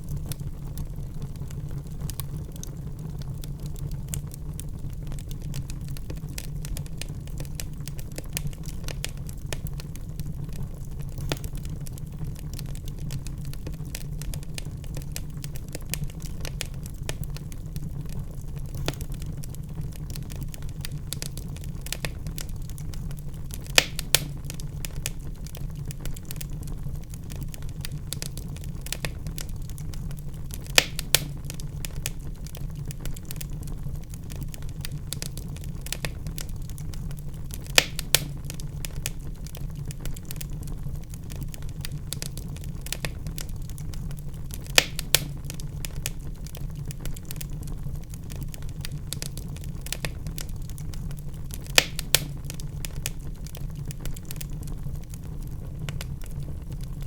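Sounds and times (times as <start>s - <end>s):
sharp fire pops: 0.0s - 57.0s
wood fire crackling: 0.0s - 57.0s.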